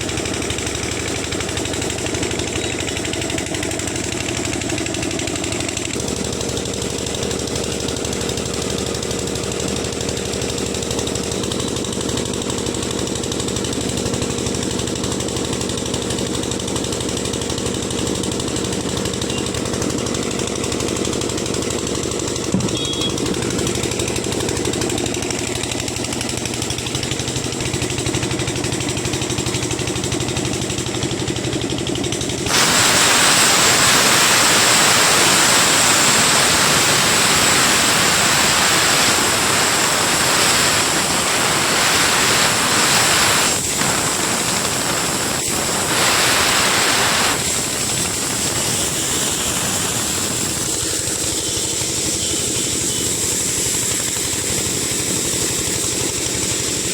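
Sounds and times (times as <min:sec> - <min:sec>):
loud rushing hiss: 0:00.0 - 0:56.9
machine drone: 0:00.0 - 0:56.9.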